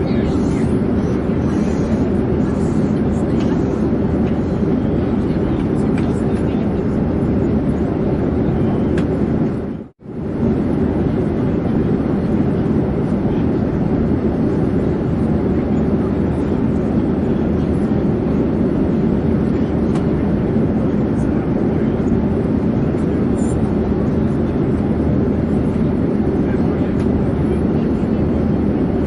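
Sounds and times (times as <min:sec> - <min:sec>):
airplane drone: 0:00.0 - 0:29.0.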